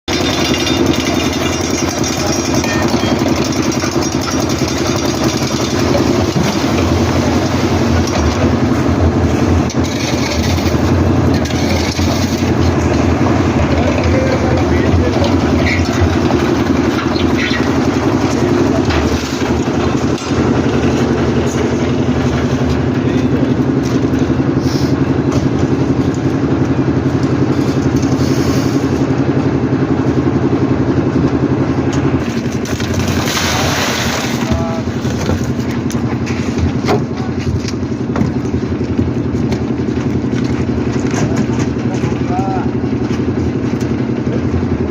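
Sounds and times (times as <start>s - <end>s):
engine running with fast beat: 0.0s - 44.9s.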